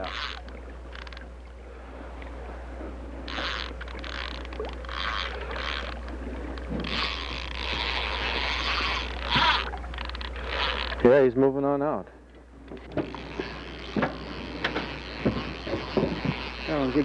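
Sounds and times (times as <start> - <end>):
fishing reel drag buzzing: 0.0 - 1.4, 2.2 - 11.2, 12.5 - 17.0.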